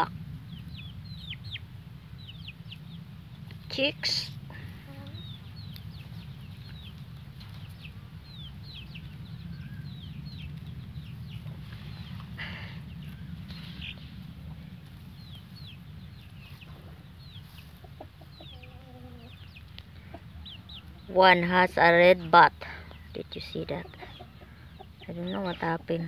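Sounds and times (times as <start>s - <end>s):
chicks peeping: 0.0s - 26.0s
steady low hum: 0.0s - 26.0s.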